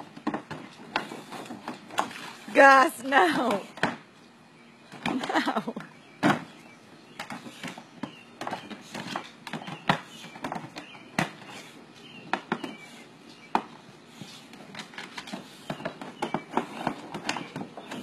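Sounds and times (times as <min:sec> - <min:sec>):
plastic pool scraping and knocking: 0:00.0 - 0:04.0, 0:04.9 - 0:06.6, 0:07.2 - 0:18.0.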